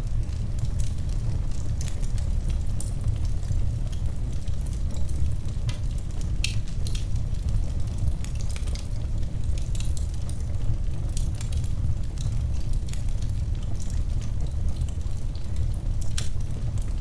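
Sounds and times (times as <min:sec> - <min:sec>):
fire crackles and pops: 0:00.0 - 0:17.0
flames rumbling: 0:00.0 - 0:17.0.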